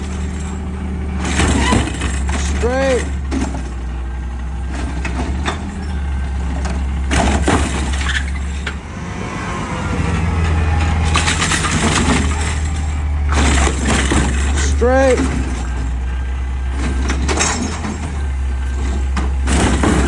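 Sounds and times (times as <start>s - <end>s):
garbage truck engine running: 0.0s - 20.0s.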